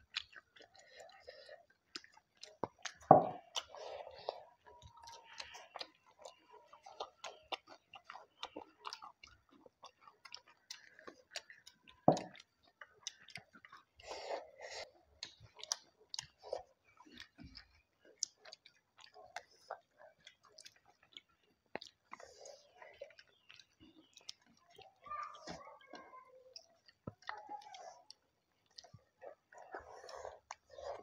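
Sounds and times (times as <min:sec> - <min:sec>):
wet chewing and lip smacks: 0:00.0 - 0:31.0.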